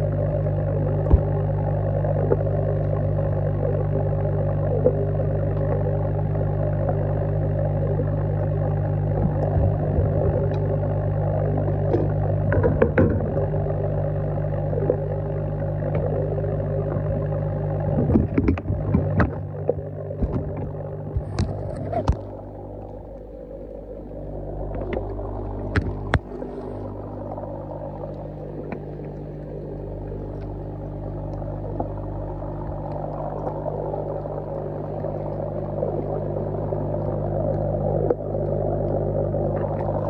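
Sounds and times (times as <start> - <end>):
air stone bubbling underwater: 0.0 - 40.0
steady low hum: 0.0 - 40.0.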